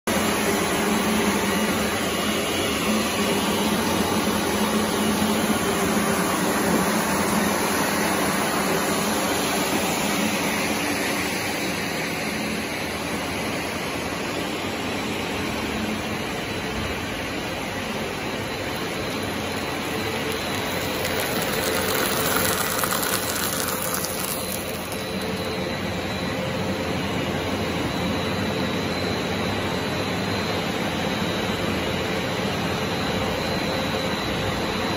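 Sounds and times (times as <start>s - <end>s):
factory machinery running: 0.1s - 34.9s.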